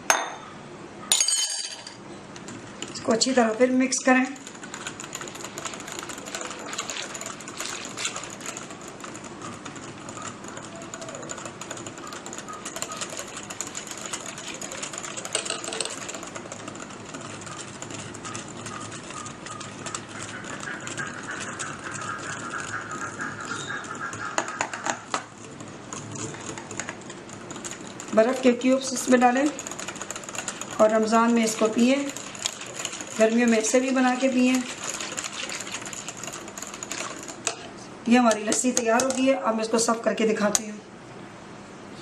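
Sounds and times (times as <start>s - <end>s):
mixing tool rattling in jug: 2.4s - 39.4s.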